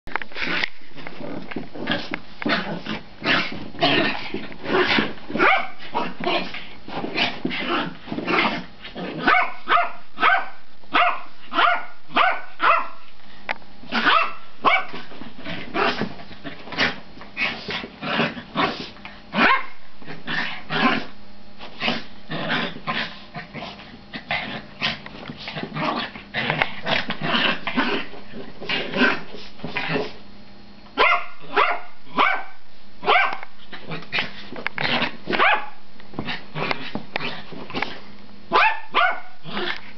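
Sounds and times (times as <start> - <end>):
small dogs barking and growling: 0.4 - 13.1, 13.8 - 21.2, 21.8 - 30.2, 31.0 - 39.9.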